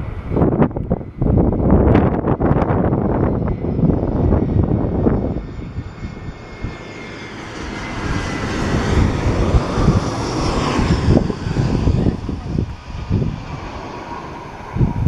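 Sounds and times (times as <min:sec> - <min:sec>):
jet airliner engine rushing: 0:00.0 - 0:15.0
wind gusts on microphone: 0:00.0 - 0:15.0.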